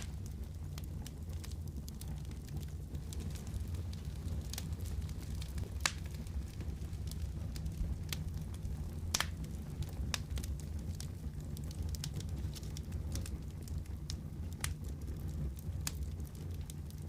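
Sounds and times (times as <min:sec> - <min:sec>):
wood fire burning in fireplace: 0:00.0 - 0:17.0.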